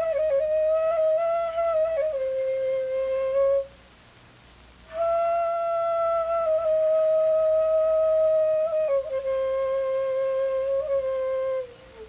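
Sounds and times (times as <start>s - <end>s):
soft flute-like melody: 0.0s - 3.8s, 4.9s - 12.0s.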